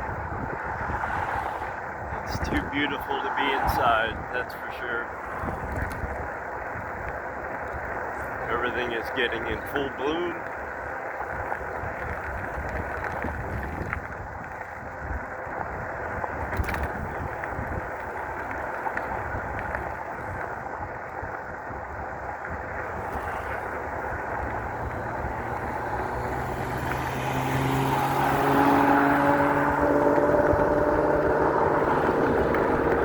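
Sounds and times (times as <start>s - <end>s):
bike tyre noise: 0.0s - 33.0s
wind buffeting microphone: 0.0s - 33.0s.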